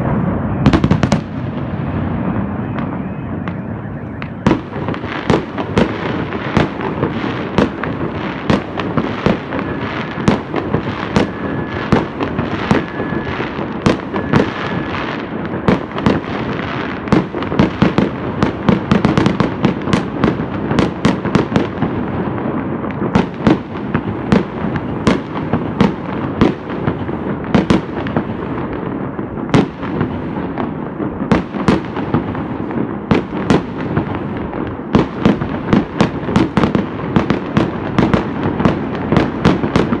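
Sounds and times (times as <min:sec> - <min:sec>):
distant firework blasts: 0:00.0 - 0:40.0
fireworks bangs and crackles: 0:00.0 - 0:40.0.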